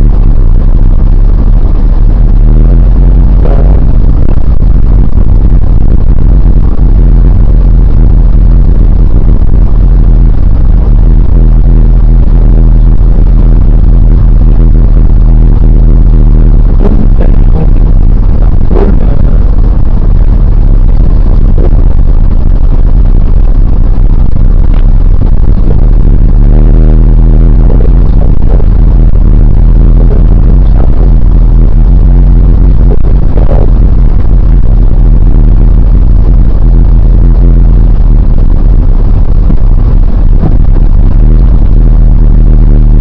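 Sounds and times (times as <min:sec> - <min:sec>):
car engine and road noise: 0:00.0 - 0:43.0
distorted bass-heavy music: 0:00.0 - 0:43.0.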